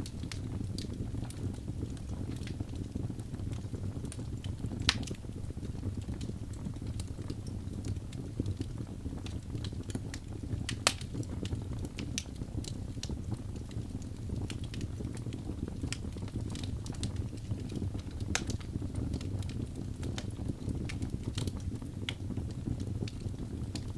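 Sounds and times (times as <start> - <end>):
fire crackling with pops: 0.0 - 23.9.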